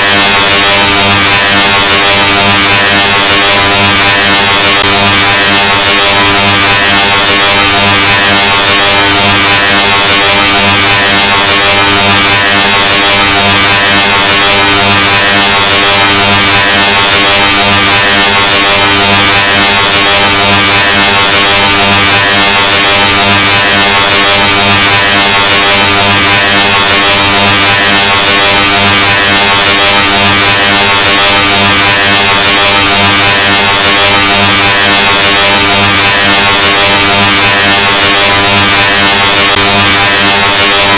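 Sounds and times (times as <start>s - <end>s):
distorted electronic buzz: 0.0s - 40.9s.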